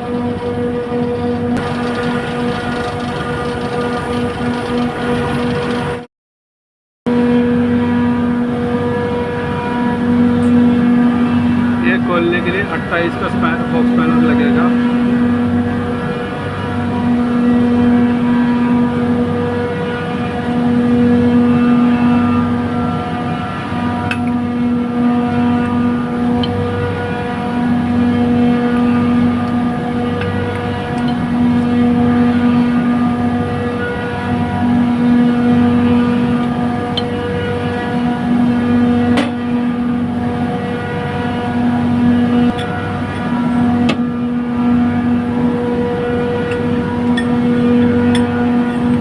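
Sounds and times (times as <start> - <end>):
compressor mechanical hum: 0.0 - 6.1, 7.1 - 49.0.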